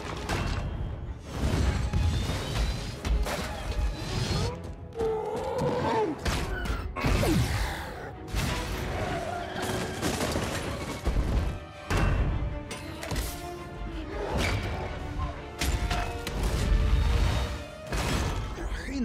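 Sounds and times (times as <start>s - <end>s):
orchestral score: 0.0s - 19.0s.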